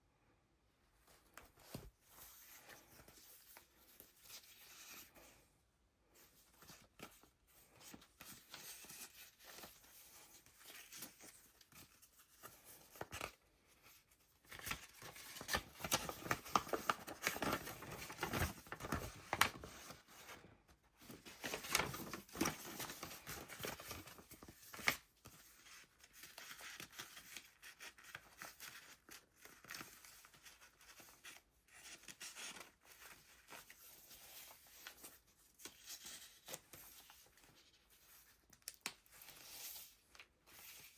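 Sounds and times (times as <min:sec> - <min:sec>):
paper rustling and crinkling: 0:01.1 - 0:40.9.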